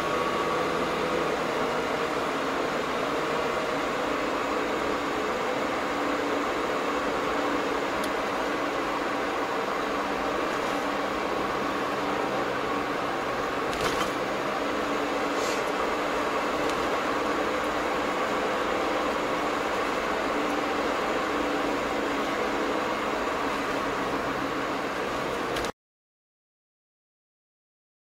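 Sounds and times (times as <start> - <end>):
car engine and road noise: 0.0 - 25.7.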